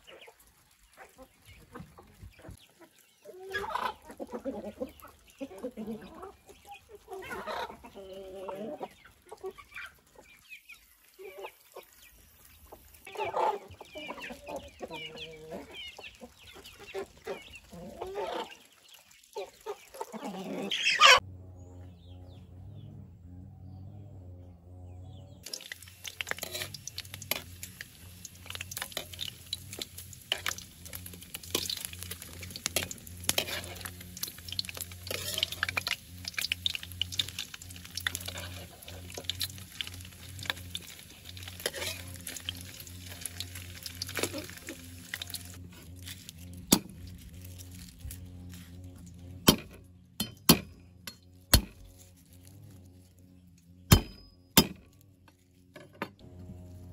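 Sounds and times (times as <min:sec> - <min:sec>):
faint sizzle: 0:00.0 - 0:21.2, 0:25.4 - 0:49.5, 0:56.2 - 0:56.9.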